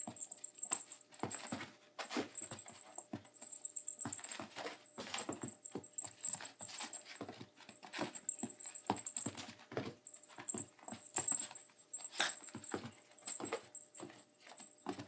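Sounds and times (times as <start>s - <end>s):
high jingling: 0.0s - 15.0s
toy clicks and scuffles: 0.0s - 15.0s.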